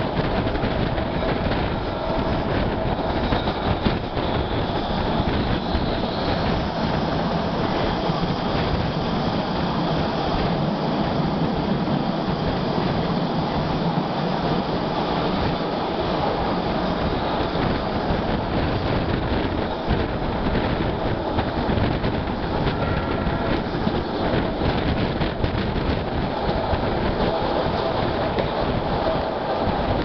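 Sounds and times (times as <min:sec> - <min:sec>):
air rushing through window: 0:00.0 - 0:30.0
train wheels rumbling on rails: 0:00.0 - 0:30.0.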